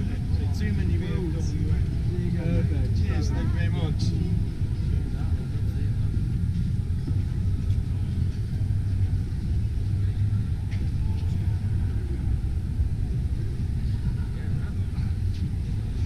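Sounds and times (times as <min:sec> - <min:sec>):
indistinct crowd voices: 0:00.0 - 0:16.0
low rumble of exhibition hall: 0:00.0 - 0:16.0.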